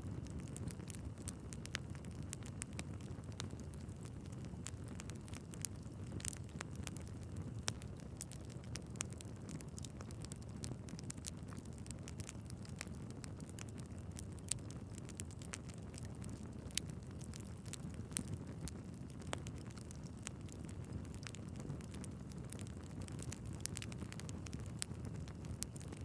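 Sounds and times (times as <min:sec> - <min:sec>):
flames rushing: 0:00.0 - 0:26.0
logs crackling and popping: 0:00.0 - 0:26.0.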